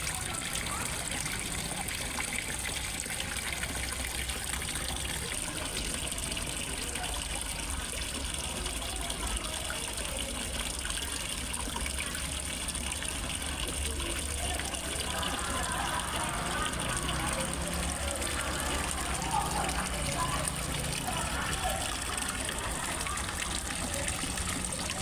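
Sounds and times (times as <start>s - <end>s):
waterfall splashing into pond: 0.0s - 25.0s.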